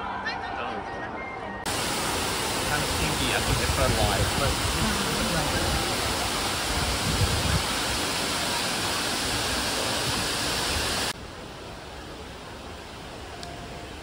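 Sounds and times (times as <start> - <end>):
faint steady hiss: 1.7 - 14.0
waterfall rushing: 1.7 - 14.0.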